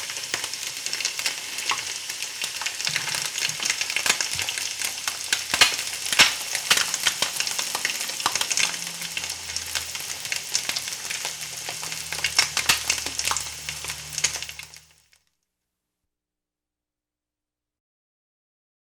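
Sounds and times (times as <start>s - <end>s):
food sizzling in hot oil: 0.0s - 15.2s.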